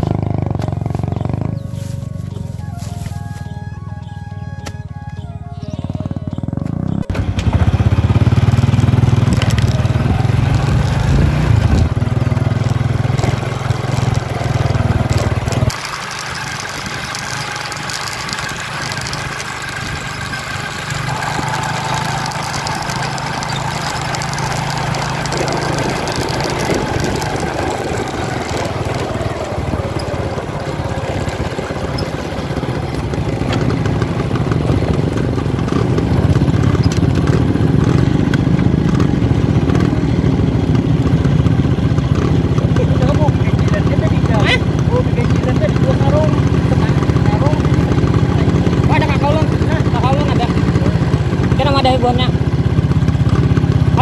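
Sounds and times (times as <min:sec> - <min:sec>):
small motorcycle engines: 0:00.0 - 0:54.0.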